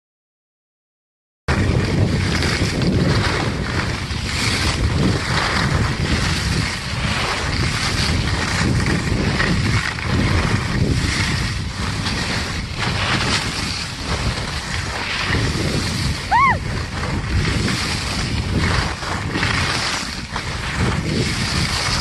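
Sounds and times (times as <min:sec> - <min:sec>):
skis scraping on snow: 0:01.5 - 0:22.0
wind rushing over microphone: 0:01.5 - 0:22.0.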